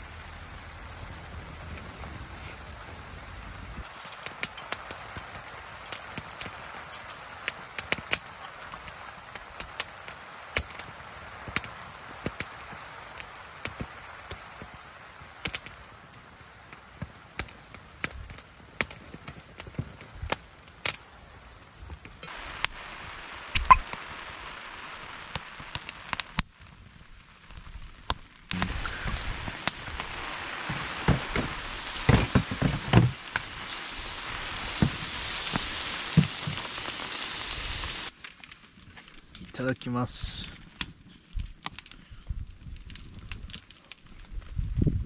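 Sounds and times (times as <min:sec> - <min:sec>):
fire crackling and popping: 0:00.0 - 0:45.0.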